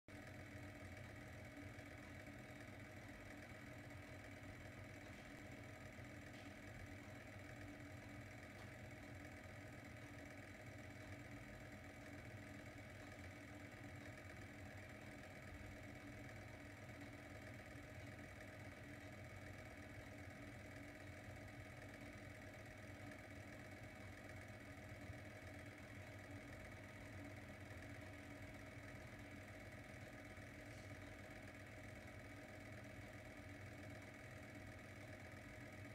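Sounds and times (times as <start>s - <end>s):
lamp motor hum: 0.1s - 35.9s.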